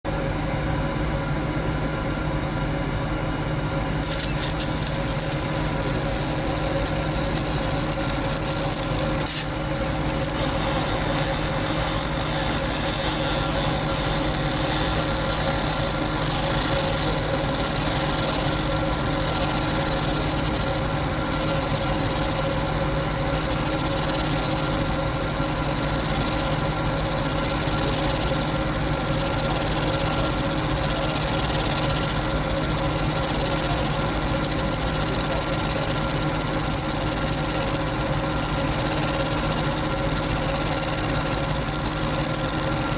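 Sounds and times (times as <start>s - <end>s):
machine hum: 0.1s - 42.9s.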